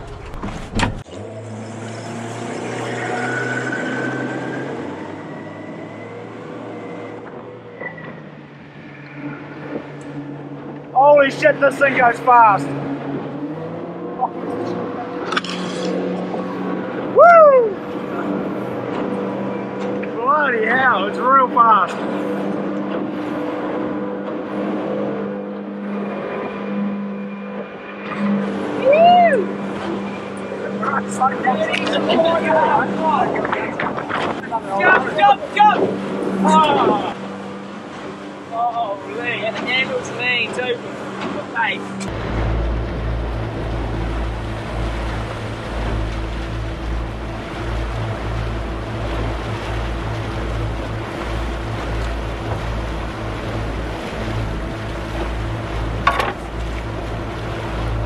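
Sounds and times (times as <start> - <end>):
outboard motors droning: 0.0 - 58.0
rushing water: 0.0 - 58.0
wind: 0.0 - 58.0.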